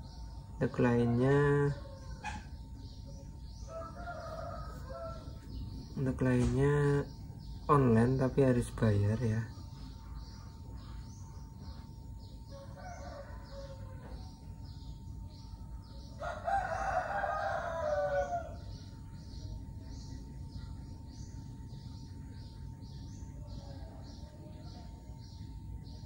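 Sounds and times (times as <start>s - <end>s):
high pulsing chirping: 0.0s - 26.0s.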